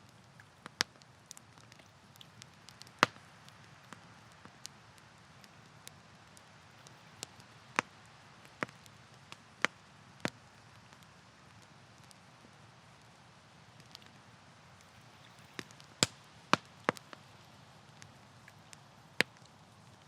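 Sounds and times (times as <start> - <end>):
campfire wood crackling and popping: 0.0 - 20.0
faint steady hiss: 0.0 - 20.0.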